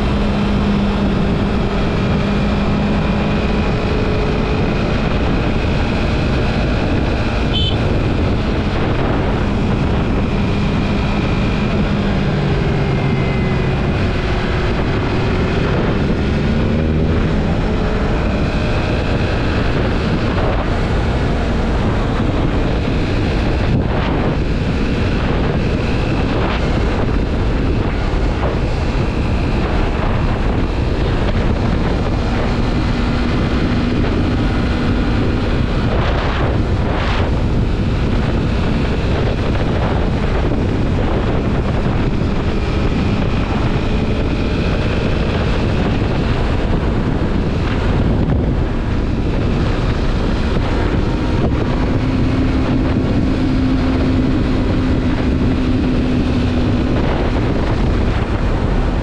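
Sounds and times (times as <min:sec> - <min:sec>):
motorcycle engine: 0:00.0 - 0:59.0
wind rush on microphone: 0:00.0 - 0:59.0.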